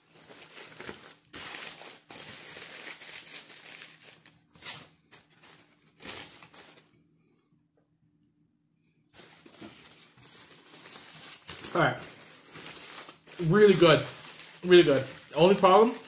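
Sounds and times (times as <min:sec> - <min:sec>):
foil paper wrapper crinkling: 0:00.0 - 0:06.9, 0:09.2 - 0:16.0.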